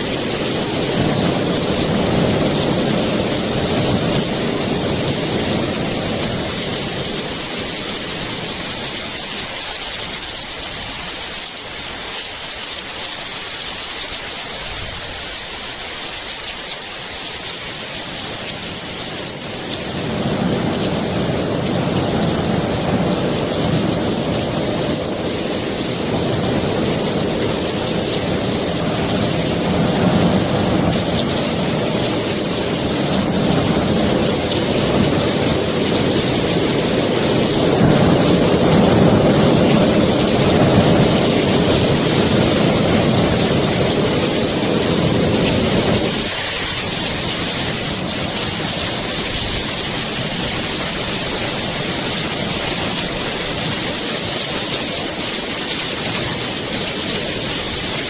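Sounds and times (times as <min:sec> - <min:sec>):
rolling thunder: 0:00.0 - 0:10.9, 0:18.2 - 0:58.0
heavy rain hissing: 0:00.0 - 0:58.0.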